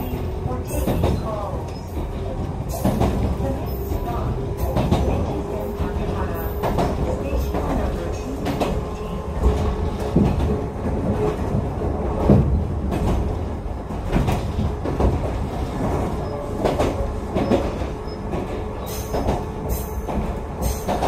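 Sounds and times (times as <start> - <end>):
train rumbling from inside: 0.0 - 21.0
train wheels knocking: 0.0 - 21.0.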